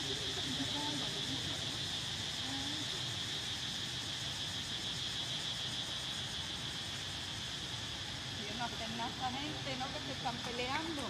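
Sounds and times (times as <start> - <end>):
insects droning: 0.0 - 11.0
low outdoor hum: 0.0 - 11.0.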